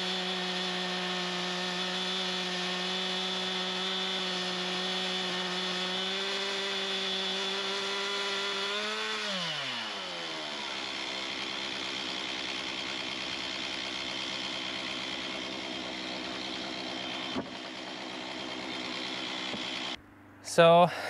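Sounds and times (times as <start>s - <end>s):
chainsaw engine: 0.0s - 21.0s.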